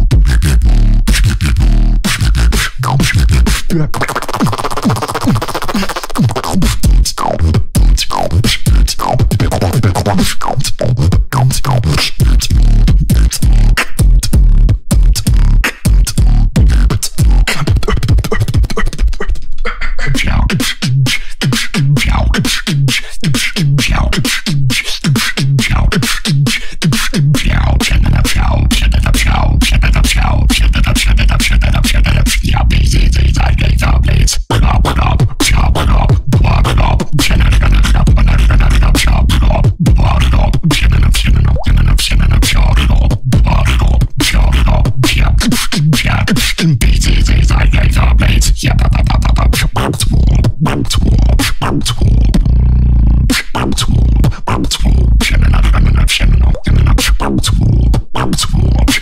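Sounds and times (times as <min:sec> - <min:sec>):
beatboxing into microphone: 0:00.0 - 0:59.0.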